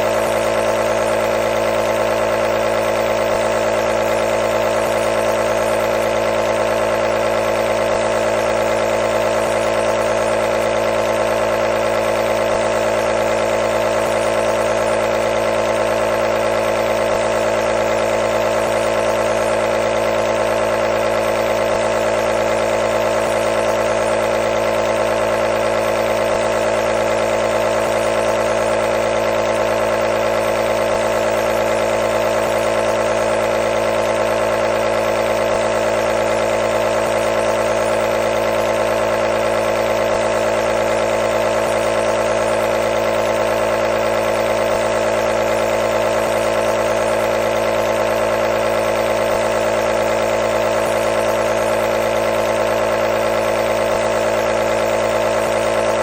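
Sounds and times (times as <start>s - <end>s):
nebulizer humming and hissing: 0.0s - 56.0s.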